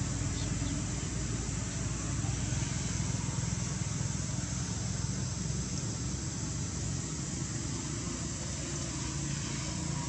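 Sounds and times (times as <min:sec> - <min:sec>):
motor engine running: 0:00.0 - 0:10.0.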